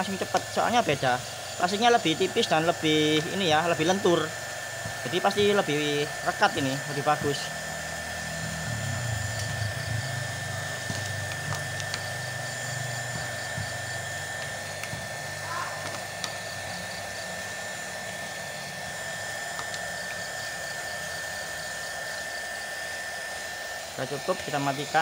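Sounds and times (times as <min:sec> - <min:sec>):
heat gun fan whining: 0:00.0 - 0:25.0.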